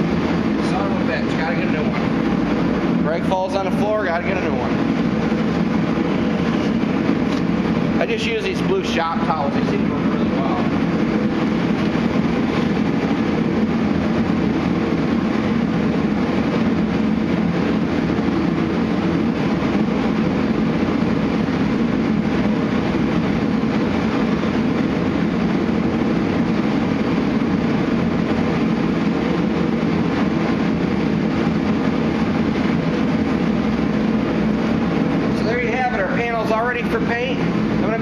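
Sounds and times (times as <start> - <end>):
low rumbling machine roar: 0.0 - 38.0.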